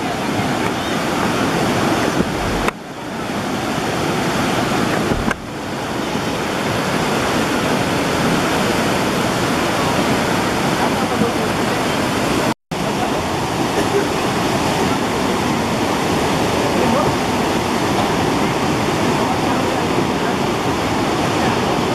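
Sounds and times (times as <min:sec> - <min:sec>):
river rushing: 0:00.0 - 0:21.9.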